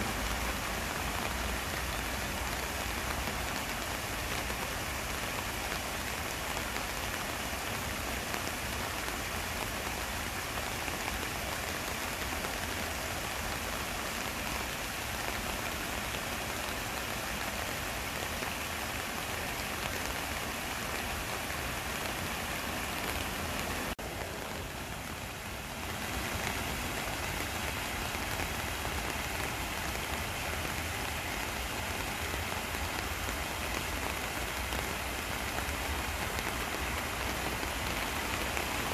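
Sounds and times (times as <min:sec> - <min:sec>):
rain falling: 0:00.0 - 0:38.9
stream splashing over rocks: 0:00.0 - 0:38.9.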